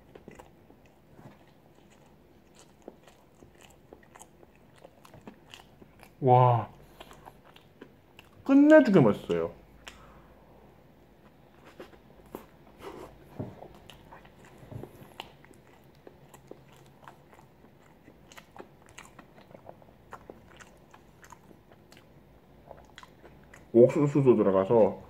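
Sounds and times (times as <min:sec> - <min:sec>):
person chewing a sandwich: 0:00.0 - 0:08.5, 0:09.7 - 0:23.8.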